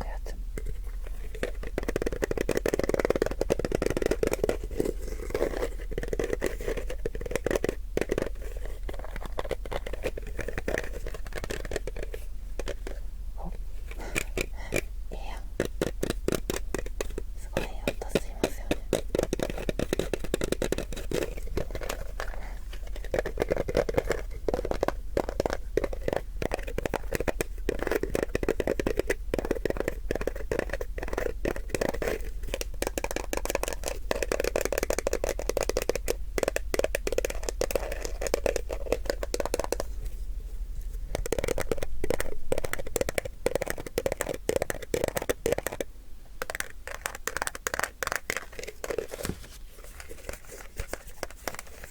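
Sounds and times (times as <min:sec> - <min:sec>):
crackly scratching and crinkling: 0:00.0 - 0:51.9.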